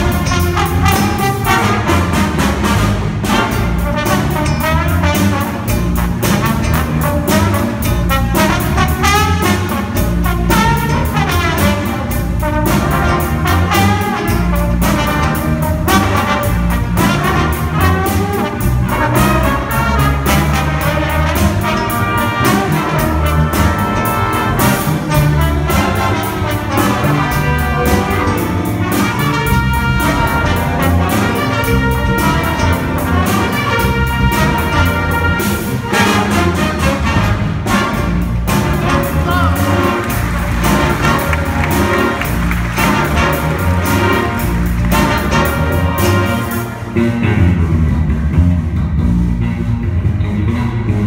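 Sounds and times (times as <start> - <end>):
jazz band playing: 0.0 - 51.0.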